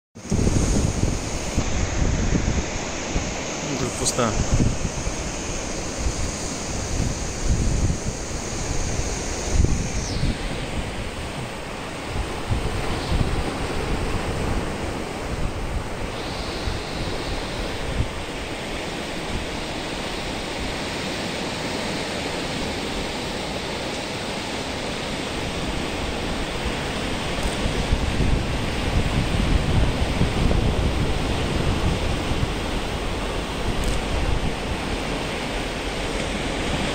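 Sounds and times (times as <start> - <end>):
waves breaking on rocky shore: 0.2 - 36.9
wind rumbling on microphone: 0.2 - 36.9.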